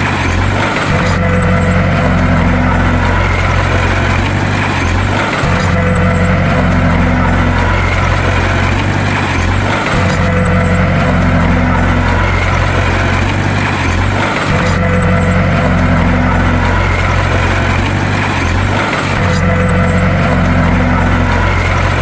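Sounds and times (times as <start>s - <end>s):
bulldozer diesel engine droning: 0.0s - 22.0s.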